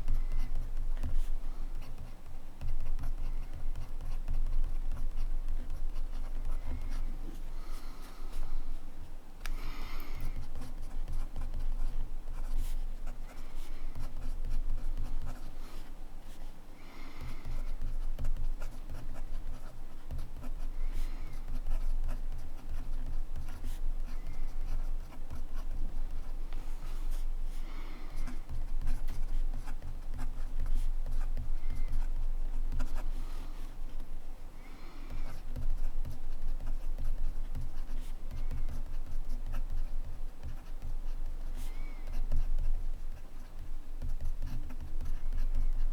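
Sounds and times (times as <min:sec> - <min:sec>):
pen nib scratching on paper: 0:00.0 - 0:07.4, 0:09.5 - 0:15.6, 0:17.2 - 0:27.6, 0:28.2 - 0:34.1, 0:35.2 - 0:45.9.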